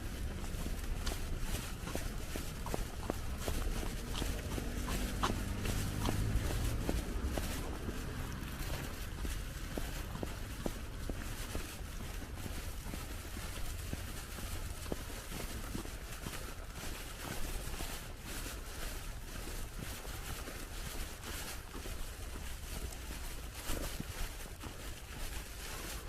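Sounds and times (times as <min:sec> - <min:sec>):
footsteps crunching through snow: 0:00.0 - 0:26.0.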